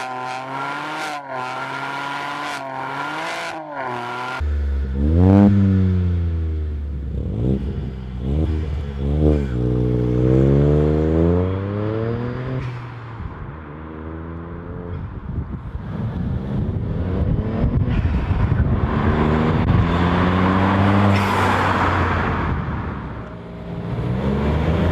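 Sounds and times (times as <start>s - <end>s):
car engine revving: 0.0s - 15.1s, 15.7s - 24.9s.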